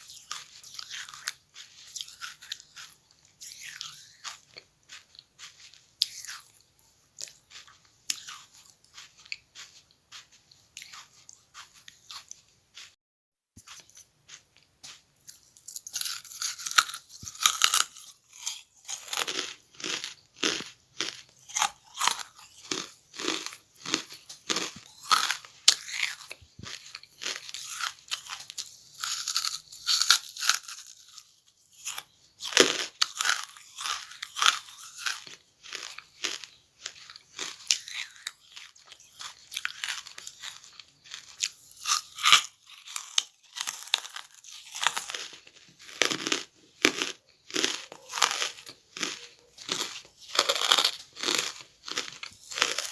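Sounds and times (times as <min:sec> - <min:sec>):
person chewing crunchy charcoal: 0:00.0 - 0:13.0, 0:13.6 - 0:52.9.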